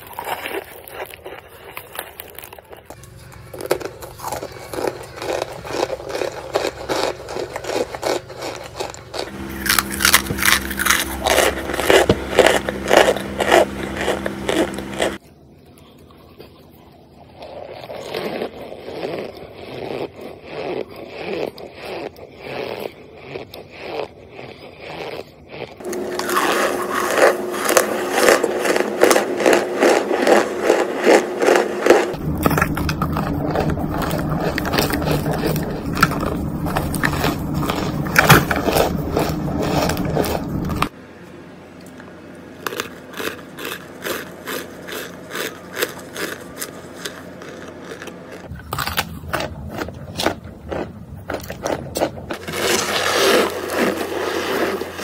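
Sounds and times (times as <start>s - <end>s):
crunching and squeaky chewing: 0.0s - 41.0s, 41.8s - 55.0s.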